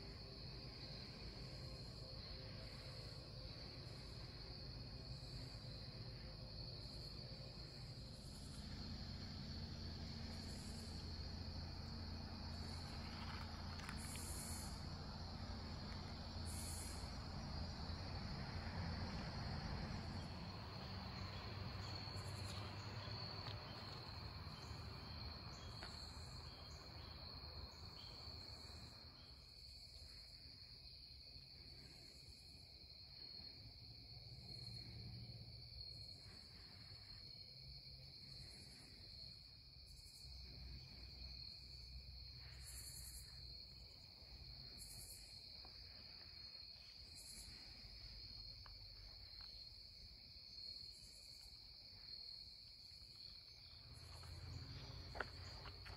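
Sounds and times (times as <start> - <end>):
crickets trilling: 0.0 - 55.9
high cricket chirps: 0.0 - 55.9.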